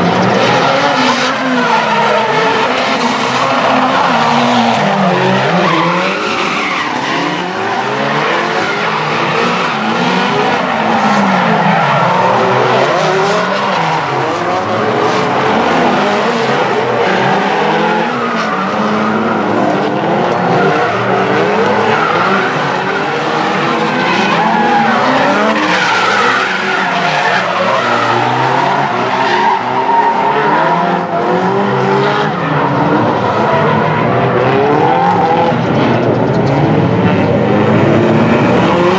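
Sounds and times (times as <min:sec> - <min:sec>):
car engines revving: 0:00.0 - 0:38.9
tyre squeal and skidding: 0:00.1 - 0:36.6.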